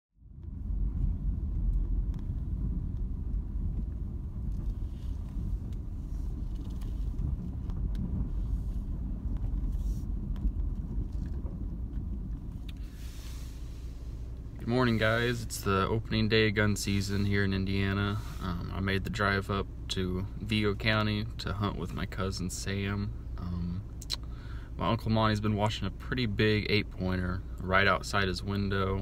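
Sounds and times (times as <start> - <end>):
vehicle engine and tyres rumbling: 0.2 - 29.0.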